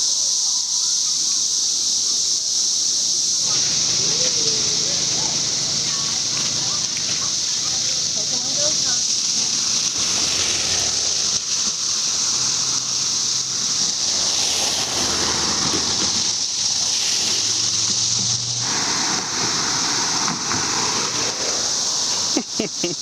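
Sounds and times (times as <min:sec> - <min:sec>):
cicadas droning: 0:00.0 - 0:23.0.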